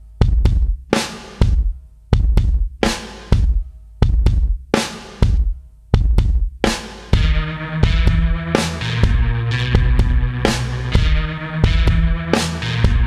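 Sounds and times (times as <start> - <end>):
music with steady drum beat: 0.0 - 13.0.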